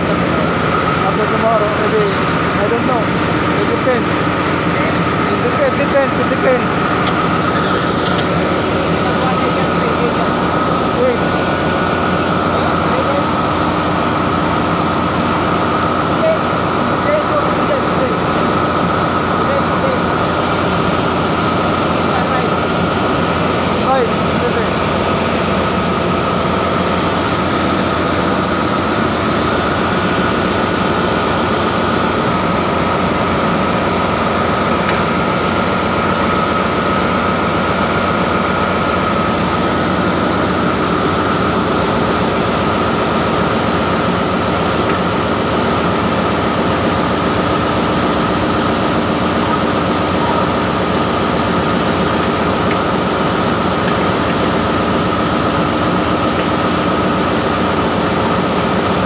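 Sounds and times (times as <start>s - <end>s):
engine room machinery droning: 0.0s - 59.0s.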